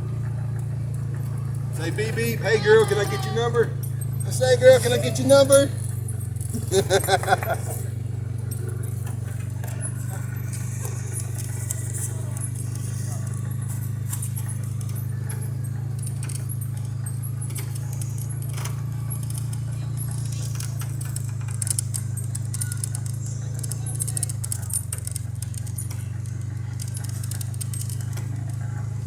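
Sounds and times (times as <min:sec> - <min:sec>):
car cabin hum: 0:00.0 - 0:29.0
metallic jingling and clicking: 0:00.1 - 0:29.0.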